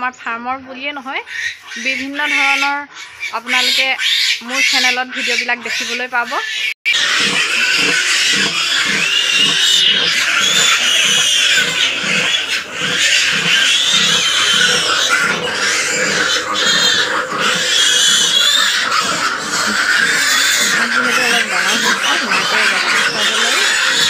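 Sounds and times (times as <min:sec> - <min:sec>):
piglets squealing: 0:01.0 - 0:24.0
sow grunting: 0:01.3 - 0:24.0.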